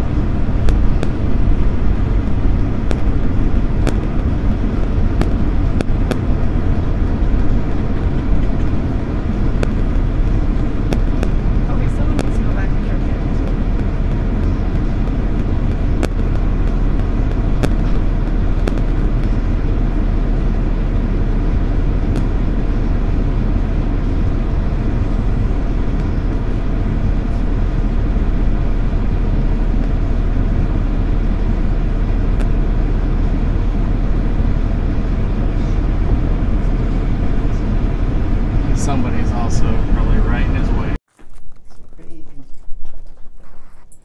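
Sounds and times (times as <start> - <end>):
road and engine rumble: 0.0 - 44.0.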